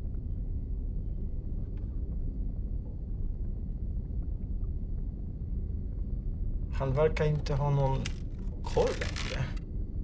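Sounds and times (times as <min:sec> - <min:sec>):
steady low rumbling: 0:00.0 - 0:10.0.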